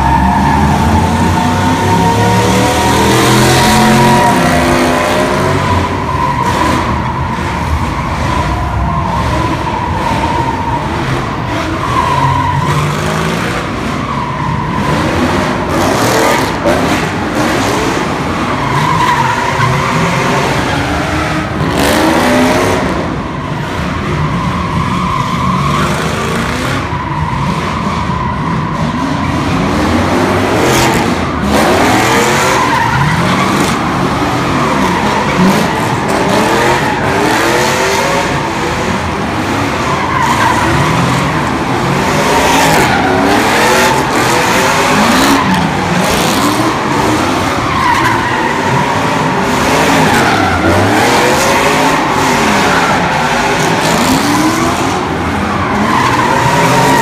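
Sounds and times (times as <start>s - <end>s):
car engine revving: 0.0s - 57.0s
car tires squealing: 0.0s - 57.0s.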